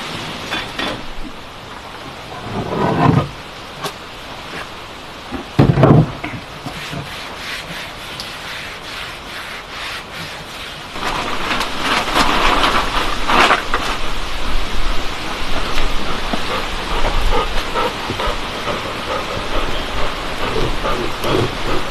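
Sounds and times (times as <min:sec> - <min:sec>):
heavy rain: 0:00.0 - 0:21.9.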